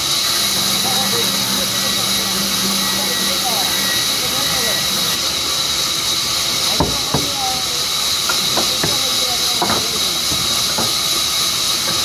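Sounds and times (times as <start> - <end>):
band saw hissing and whining: 0.0 - 12.0.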